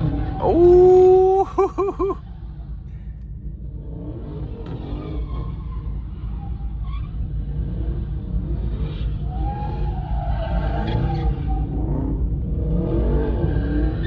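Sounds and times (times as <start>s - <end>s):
car engine rumble: 0.0s - 14.0s
road noise: 0.0s - 14.0s.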